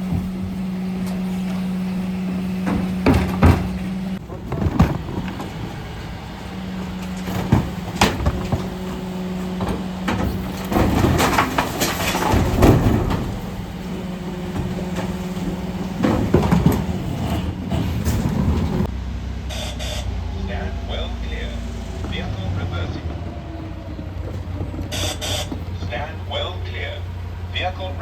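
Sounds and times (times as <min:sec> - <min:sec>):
loud clattering and knocks: 0:00.0 - 0:18.9, 0:21.9 - 0:27.5
refuse truck humming: 0:00.0 - 0:28.0.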